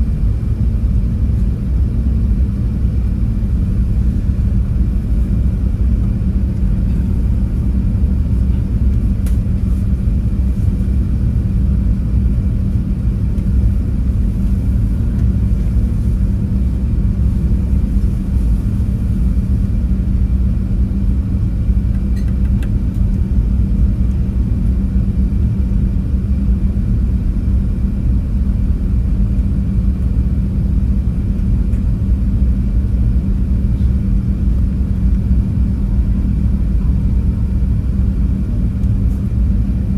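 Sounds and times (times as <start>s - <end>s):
aircraft engines rumbling: 0.0s - 39.9s
steady cabin hum: 0.0s - 39.9s.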